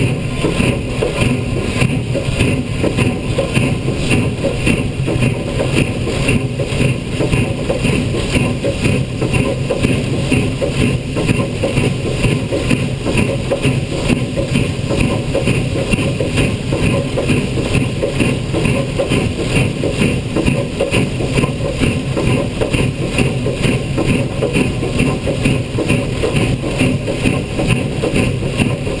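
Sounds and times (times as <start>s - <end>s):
steam locomotive chuffing: 0.0s - 29.0s.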